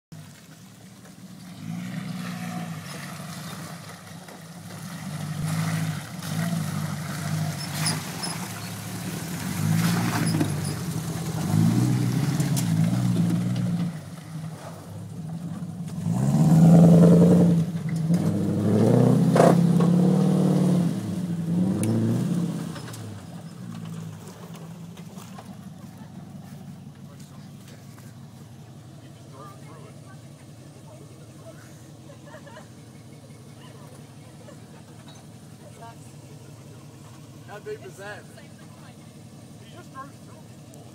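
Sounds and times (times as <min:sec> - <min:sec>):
truck engine revving: 0:01.4 - 0:40.9.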